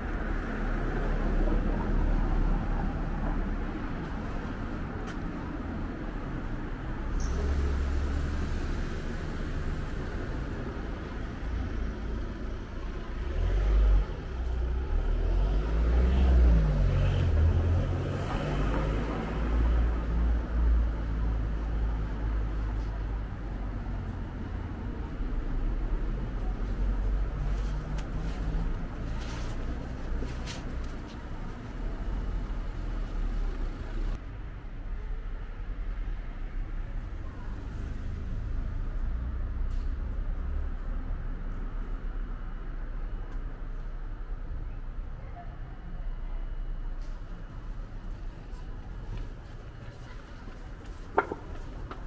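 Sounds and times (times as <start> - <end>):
low traffic rumble: 0.0 - 52.0.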